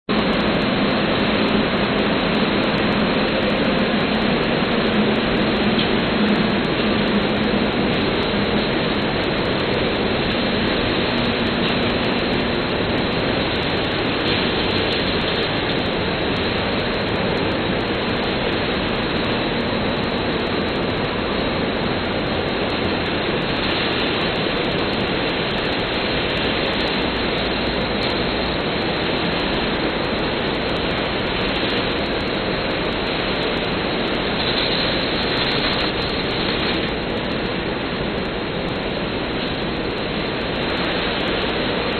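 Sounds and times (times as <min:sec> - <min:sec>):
industrial machinery hum: 0:00.0 - 0:41.9.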